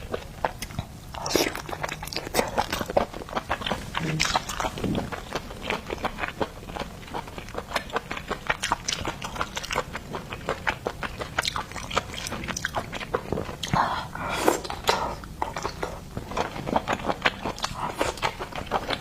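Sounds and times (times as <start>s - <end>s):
chewing and biting crunches: 0.0s - 19.0s.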